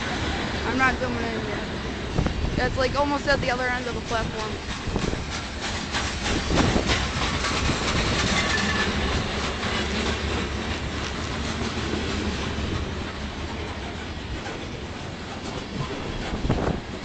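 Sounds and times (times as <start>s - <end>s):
freight train wheels clacking: 0.0s - 17.0s.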